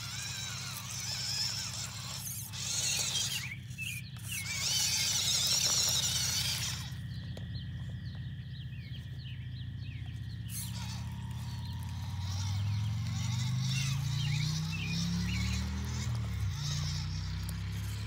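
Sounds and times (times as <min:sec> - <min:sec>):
toy truck motor whining: 0:00.0 - 0:07.1, 0:10.5 - 0:18.0.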